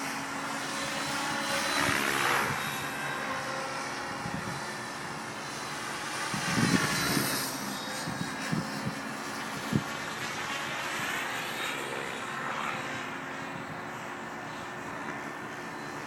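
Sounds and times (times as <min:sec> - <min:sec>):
model helicopter rotor whirring: 0:00.0 - 0:16.0.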